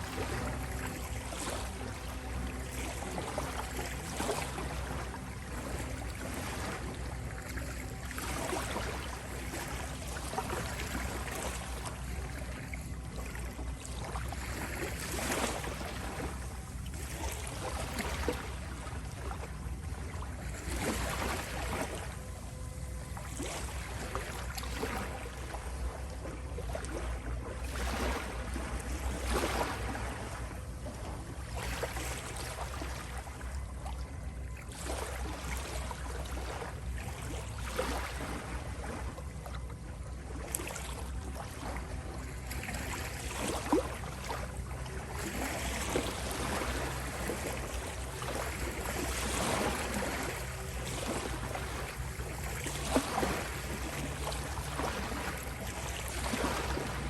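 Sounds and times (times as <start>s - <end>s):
ocean waves breaking: 0.0s - 57.0s
steady low drone: 0.0s - 57.0s.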